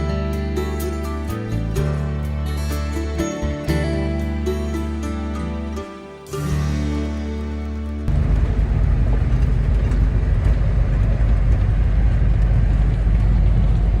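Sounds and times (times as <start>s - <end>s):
heavy farm machinery rumbling: 0.0s - 14.0s.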